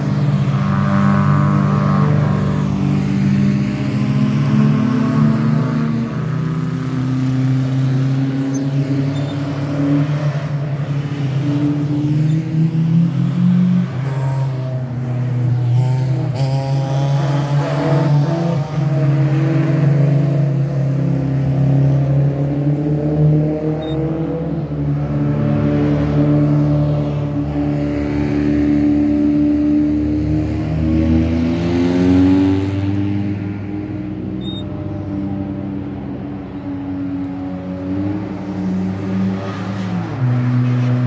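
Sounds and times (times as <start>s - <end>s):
racing car engines revving: 0.0s - 41.0s.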